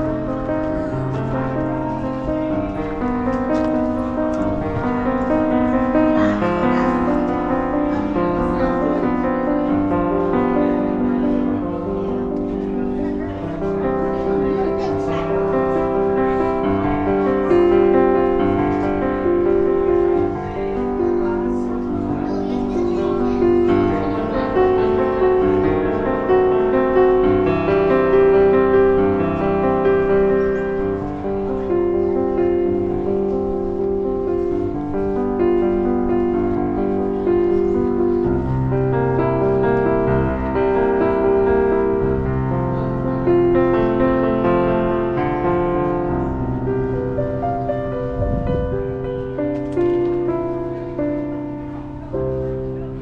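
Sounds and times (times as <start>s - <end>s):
held piano notes: 0.0s - 53.0s.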